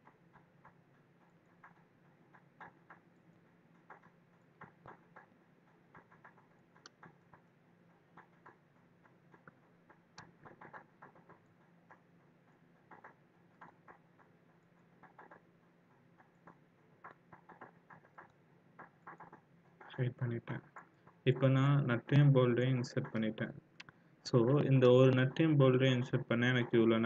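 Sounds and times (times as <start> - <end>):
computer mouse clicks: 0.0 - 24.0
faint low hum: 0.0 - 27.0.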